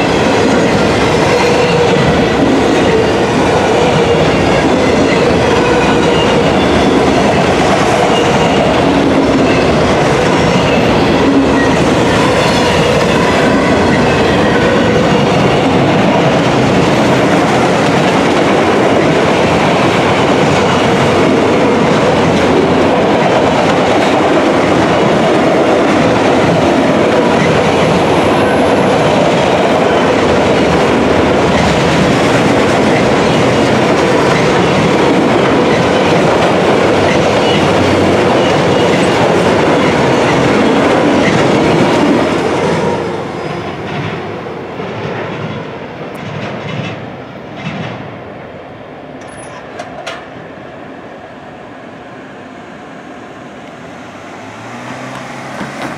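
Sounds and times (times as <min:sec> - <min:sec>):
freight train wheels on rails: 0:00.0 - 0:55.9.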